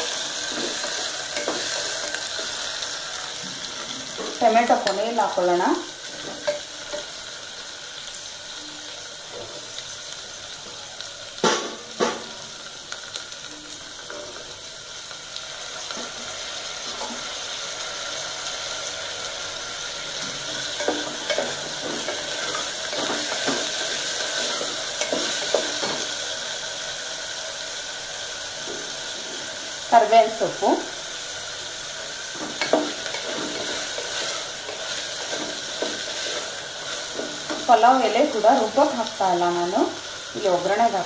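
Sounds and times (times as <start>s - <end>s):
vegetables sizzling in oil: 0.0s - 41.0s.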